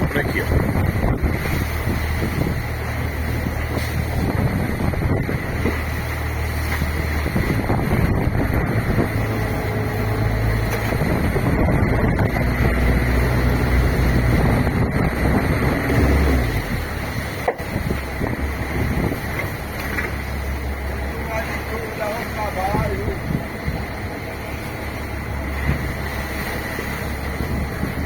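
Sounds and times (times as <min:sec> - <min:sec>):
boat engine droning: 0:00.0 - 0:28.0
wind buffeting microphone: 0:00.0 - 0:28.0.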